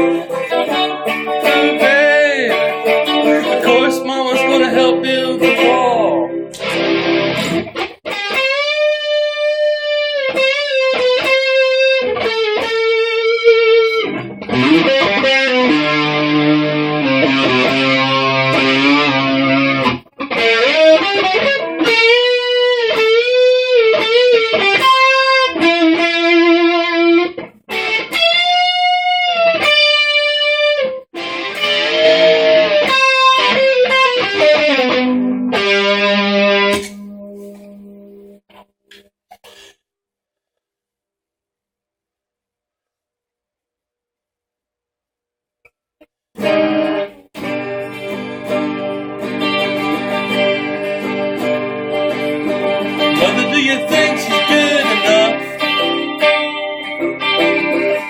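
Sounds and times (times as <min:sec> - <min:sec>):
distorted electric guitar solo: 0:00.0 - 0:38.4, 0:46.4 - 0:58.0.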